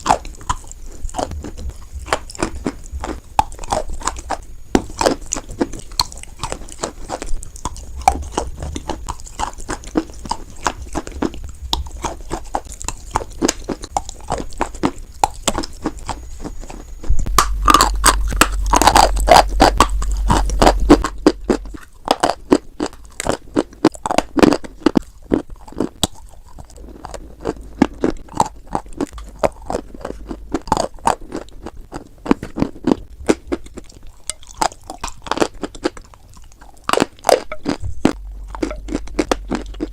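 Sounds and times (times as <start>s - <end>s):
chalk crunching while chewed: 0.0s - 39.9s.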